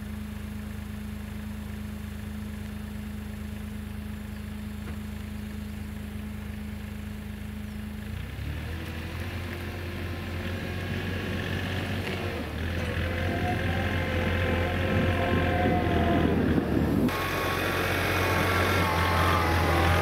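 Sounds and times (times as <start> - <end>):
diesel engine idling and revving: 0.0 - 20.0.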